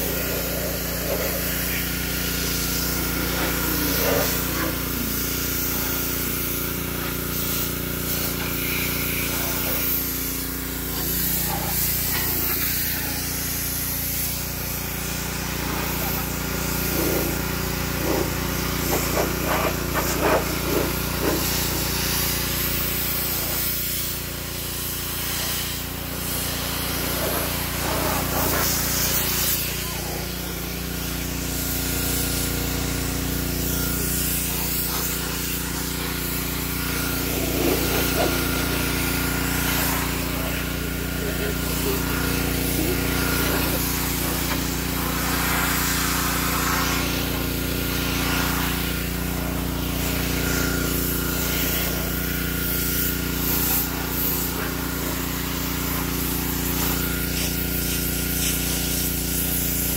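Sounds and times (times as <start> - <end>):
pressure washer motor drone: 0.0 - 59.9
water spray hiss: 0.0 - 59.9.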